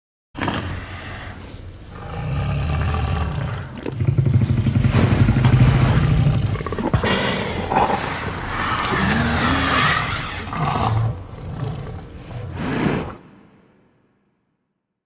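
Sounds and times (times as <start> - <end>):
deep dinosaur roar: 0.4 - 13.8.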